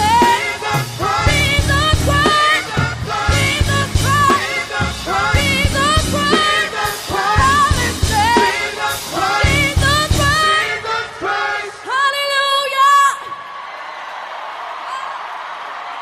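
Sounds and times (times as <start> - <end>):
band music with singing: 0.0 - 13.4.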